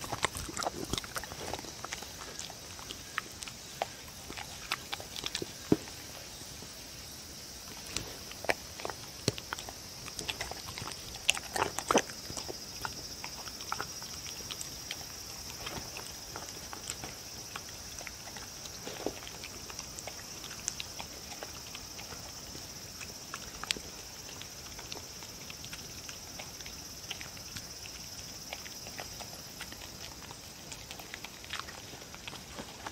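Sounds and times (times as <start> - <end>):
dog licking and chewing food: 0.0 - 32.9.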